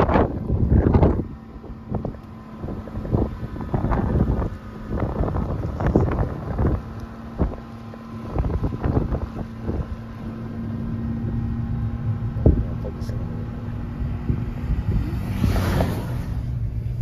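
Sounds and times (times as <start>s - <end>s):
car engine and road drone: 0.0s - 17.0s
wind buffeting microphone: 0.0s - 17.0s.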